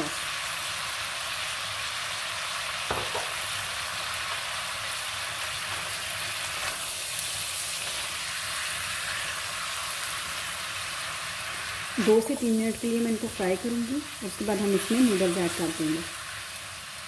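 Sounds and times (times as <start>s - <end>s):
vegetables and chicken sizzling: 0.0s - 17.0s.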